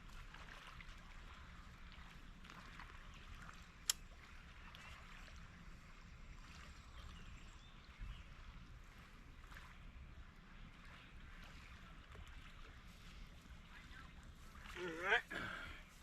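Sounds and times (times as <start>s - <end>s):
water noise: 0.0s - 16.0s.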